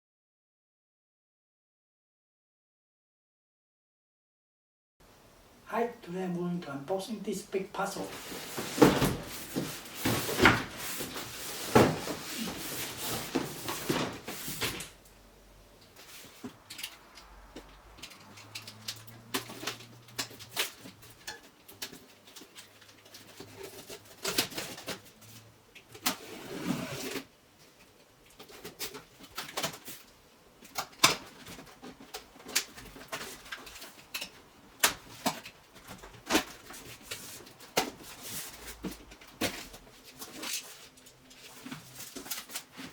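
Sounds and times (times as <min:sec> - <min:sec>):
cardboard and plastic rustling: 0:07.8 - 0:15.1, 0:15.8 - 0:42.9.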